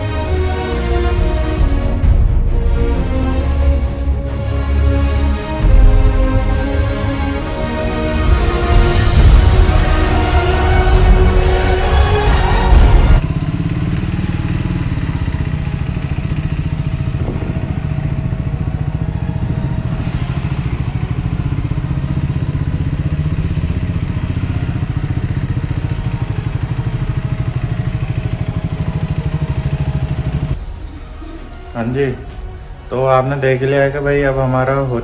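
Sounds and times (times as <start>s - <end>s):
motorcycle engine running: 0.0s - 31.5s
background music: 0.0s - 35.0s.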